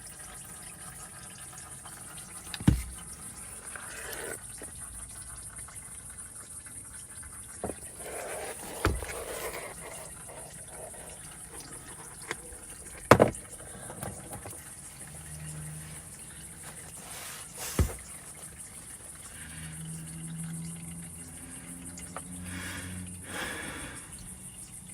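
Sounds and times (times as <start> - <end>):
oil running in a stream: 0.0 - 24.9.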